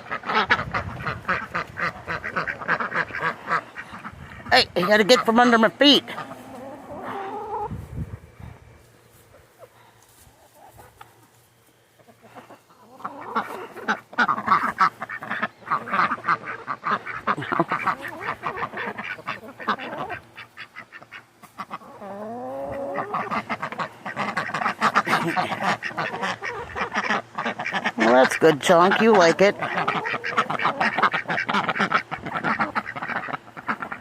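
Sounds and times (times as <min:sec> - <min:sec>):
ducks quacking: 0:00.0 - 0:11.2, 0:12.0 - 0:34.0.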